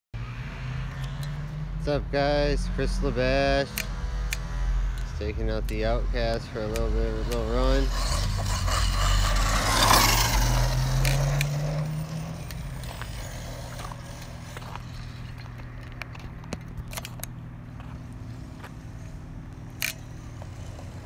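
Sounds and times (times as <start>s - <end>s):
tyre and grit noise: 0.2s - 21.0s
electric motor whining: 2.6s - 21.0s.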